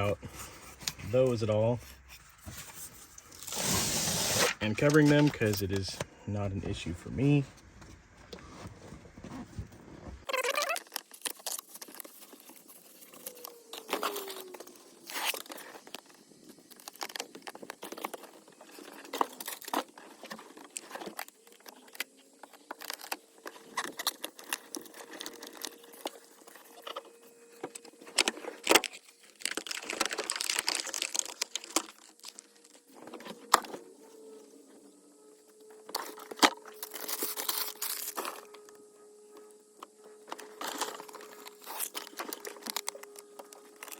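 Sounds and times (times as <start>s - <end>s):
sound-deadening mat crinkling: 7.1s - 43.9s.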